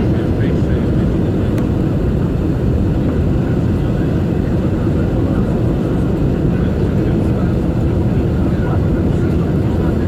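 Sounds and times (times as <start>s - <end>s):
airflow and jet engine roar: 0.0s - 10.0s.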